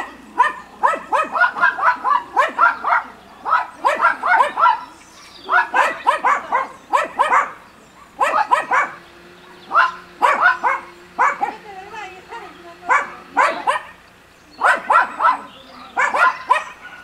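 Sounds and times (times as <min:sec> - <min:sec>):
dog barking: 0:00.0 - 0:11.7, 0:12.8 - 0:14.0, 0:14.6 - 0:17.0.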